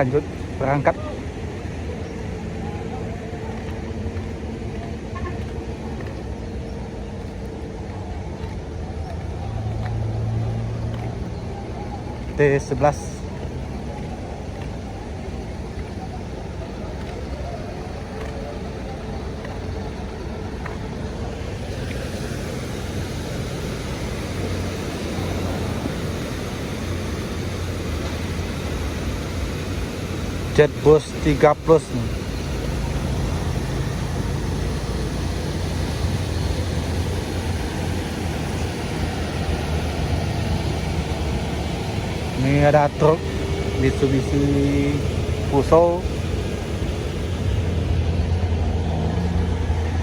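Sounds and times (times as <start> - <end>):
road and wind noise: 0.0 - 50.0
vehicle engine droning: 0.0 - 50.0.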